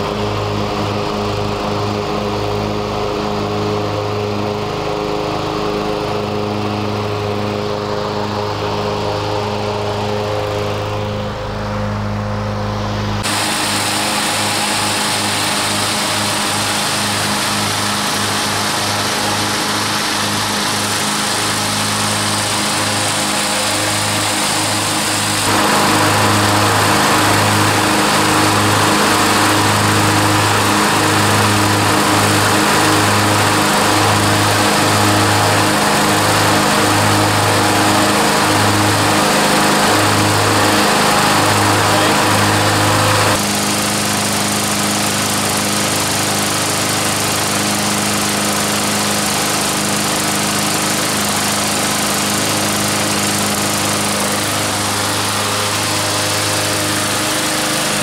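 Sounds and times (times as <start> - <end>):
lawn mower engines droning: 0.0 - 58.0.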